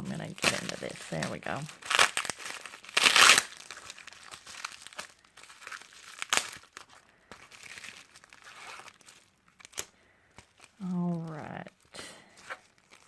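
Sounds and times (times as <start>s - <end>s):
packaging tearing and crinkling: 0.0s - 13.0s.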